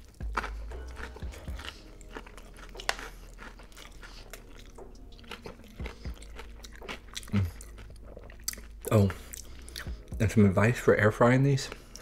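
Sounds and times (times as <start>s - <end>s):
crisp chewing crunches: 0.0s - 9.9s.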